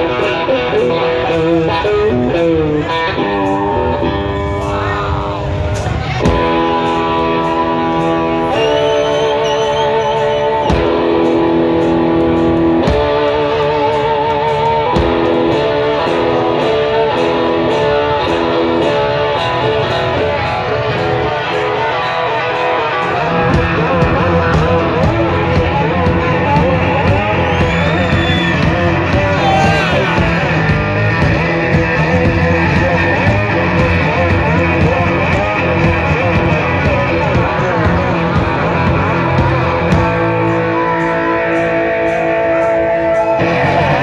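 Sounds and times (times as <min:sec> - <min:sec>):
electric guitar with vibrato: 0:00.0 - 0:44.0
steady drum beat: 0:00.0 - 0:44.0.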